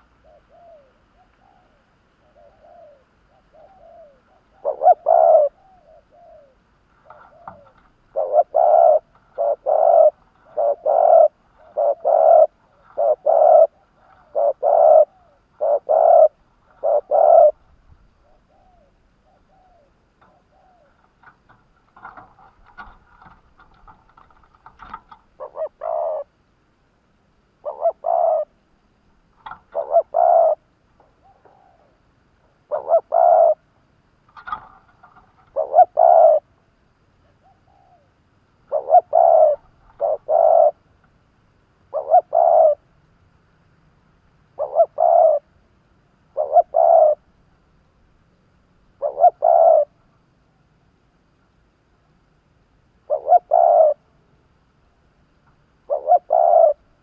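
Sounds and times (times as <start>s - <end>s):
dove cooing: 0.0s - 26.4s, 27.6s - 28.7s, 29.3s - 33.8s, 34.4s - 40.9s, 41.9s - 42.9s, 44.5s - 45.6s, 46.2s - 47.4s, 48.9s - 50.2s, 53.0s - 54.3s, 55.8s - 57.0s.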